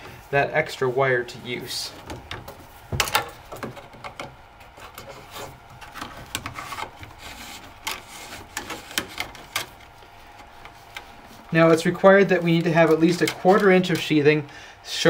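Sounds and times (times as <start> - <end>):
cable scraping against plastic: 2.0 - 14.2.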